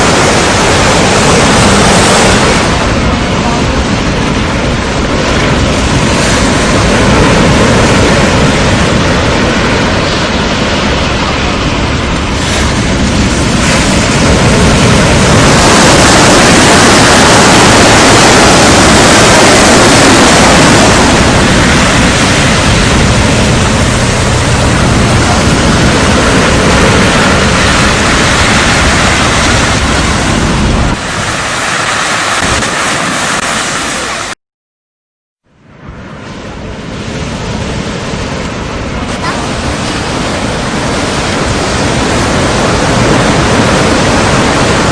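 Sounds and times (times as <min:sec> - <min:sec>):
wind buffeting microphone: 0:00.0 - 0:34.1, 0:35.7 - 0:44.9
sea surf breaking: 0:00.0 - 0:34.4, 0:35.7 - 0:44.9.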